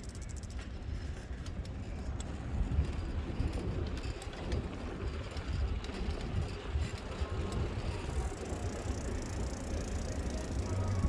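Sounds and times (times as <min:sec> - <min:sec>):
bicycle clicks and rattles: 0:00.0 - 0:11.0
wind buffeting microphone: 0:00.0 - 0:11.0.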